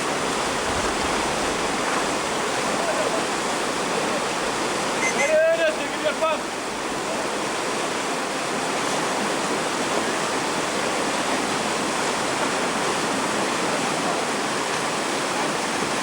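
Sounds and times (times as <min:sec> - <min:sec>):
rushing river rapids: 0:00.0 - 0:16.0.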